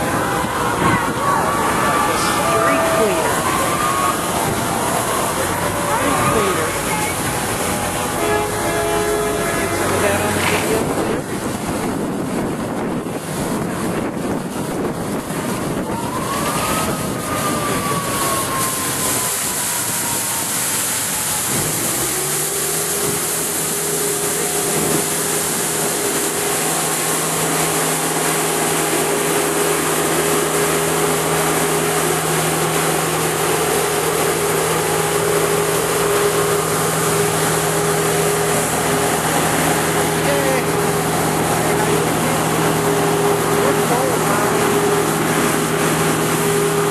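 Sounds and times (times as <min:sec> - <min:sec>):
low hum with higher tone: 0:00.0 - 0:15.8, 0:21.2 - 0:46.9
street sweeper mechanical rush: 0:00.0 - 0:46.9.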